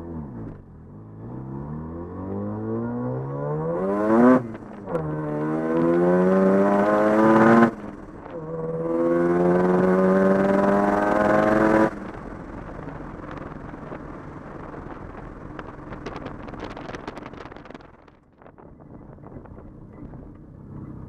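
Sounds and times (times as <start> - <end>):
rotary engine accelerating: 0.0 - 17.9.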